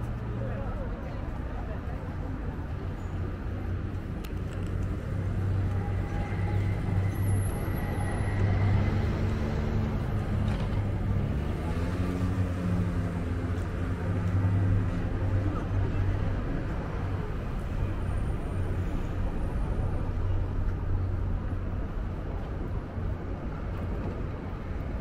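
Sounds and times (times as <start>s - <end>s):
low street hum: 0.0s - 25.0s.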